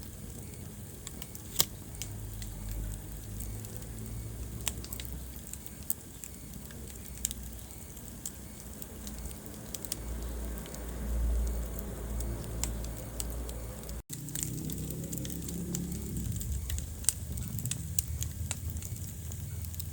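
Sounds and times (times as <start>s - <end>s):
wood fire crackling: 0.0s - 19.9s.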